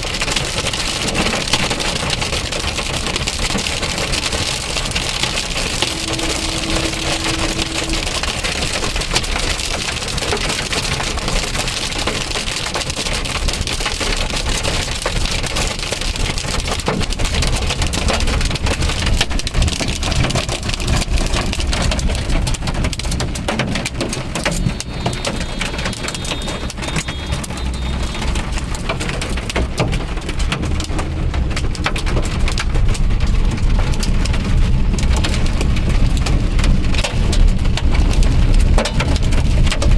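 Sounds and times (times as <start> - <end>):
car rumbling: 0.0 - 39.9
hailstones pelting a car: 0.0 - 39.9.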